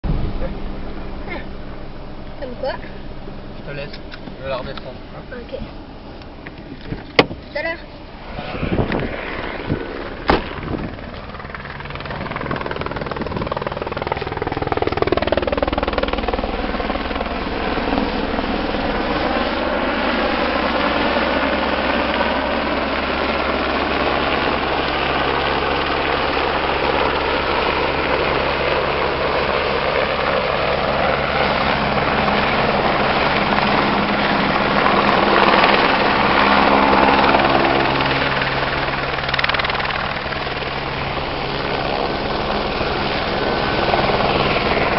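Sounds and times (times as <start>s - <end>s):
helicopter flying: 0.0s - 44.9s.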